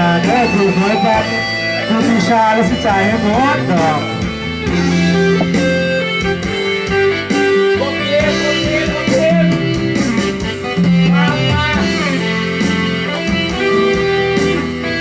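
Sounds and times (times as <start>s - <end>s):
guitar-led pop band playing: 0.0s - 15.0s.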